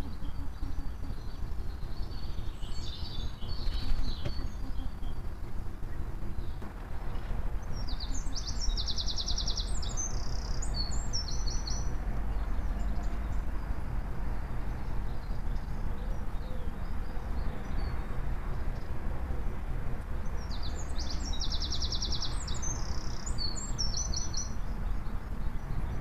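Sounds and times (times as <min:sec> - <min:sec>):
songbird singing with trill: 0:00.0 - 0:19.4, 0:20.0 - 0:26.0
steady low rumble: 0:00.0 - 0:26.0.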